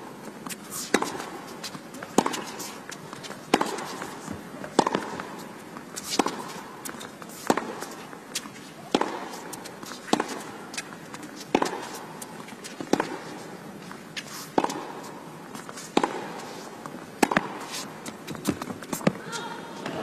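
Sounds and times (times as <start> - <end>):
rackets striking tennis ball: 0.4 - 20.0.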